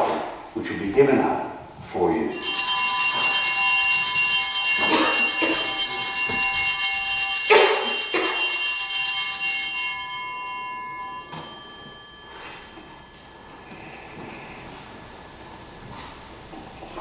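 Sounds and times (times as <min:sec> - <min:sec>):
altar bells ringing: 0:02.3 - 0:16.5.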